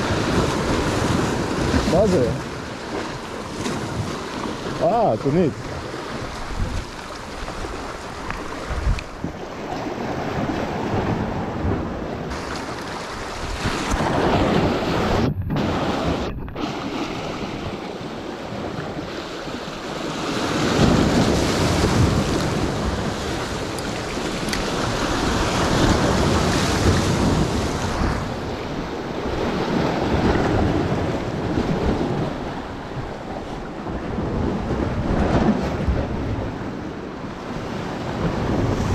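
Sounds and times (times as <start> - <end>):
waves breaking on rocks: 0.0 - 38.9.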